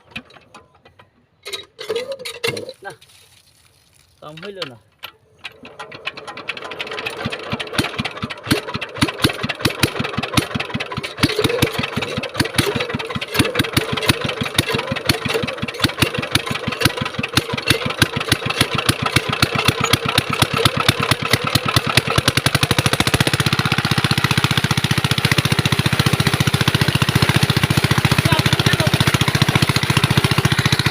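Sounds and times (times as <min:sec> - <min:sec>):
diesel pump engine starting: 0:04.5 - 0:30.9.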